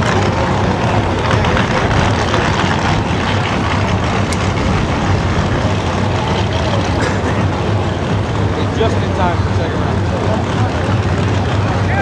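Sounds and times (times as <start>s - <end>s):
drag car engines idling: 0.0s - 12.0s.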